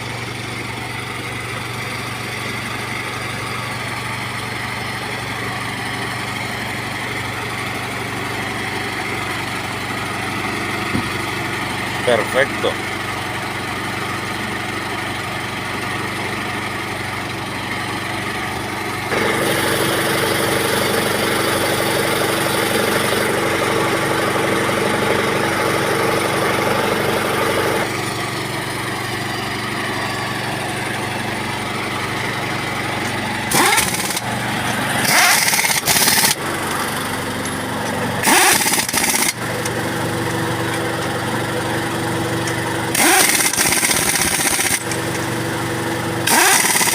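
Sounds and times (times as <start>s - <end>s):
small engine running: 0.0s - 46.9s.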